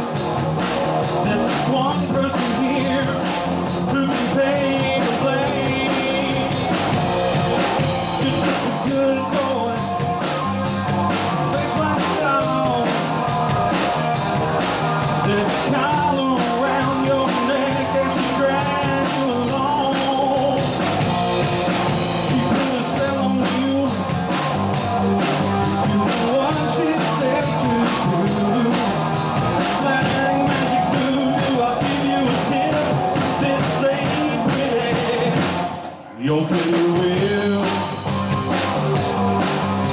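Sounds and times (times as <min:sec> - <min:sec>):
drum beats: 0:00.0 - 0:39.9
live rock band playing: 0:00.0 - 0:39.9.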